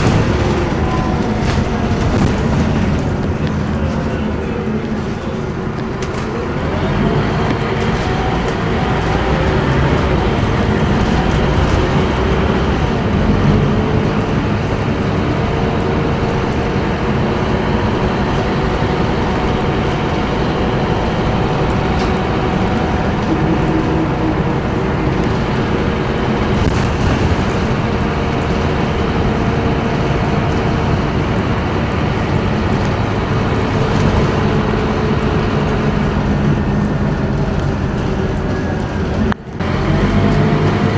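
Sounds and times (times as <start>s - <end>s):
bus diesel engine and road noise: 0.0s - 40.9s.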